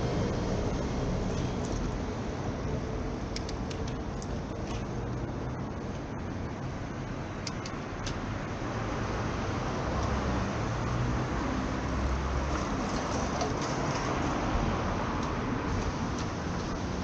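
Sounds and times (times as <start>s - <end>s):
hum of passing vehicles: 0.0s - 17.0s.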